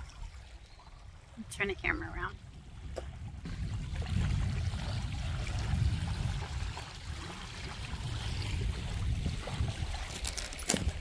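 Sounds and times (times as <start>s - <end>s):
small waves lapping on shore: 0.0s - 11.0s
wind buffeting microphone: 1.5s - 11.0s.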